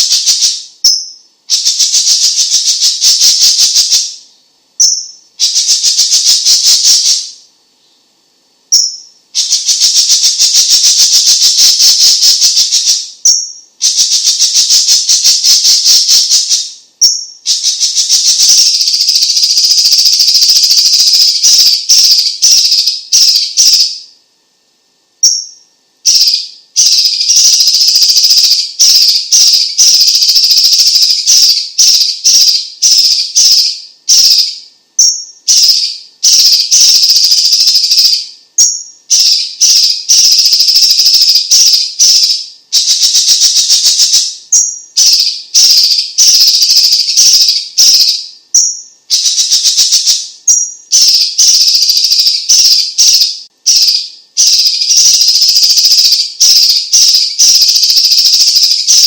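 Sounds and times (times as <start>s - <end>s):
bird singing rattling trills: 0.0s - 24.2s, 25.2s - 59.0s.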